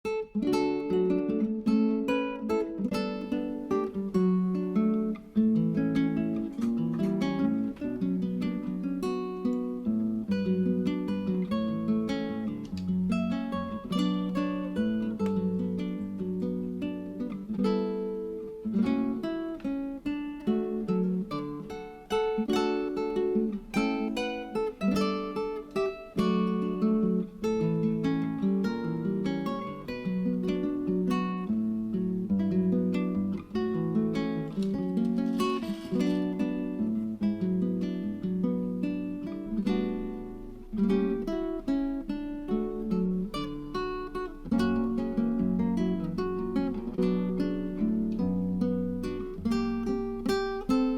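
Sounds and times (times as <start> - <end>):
acoustic guitar strumming: 0.0 - 50.9.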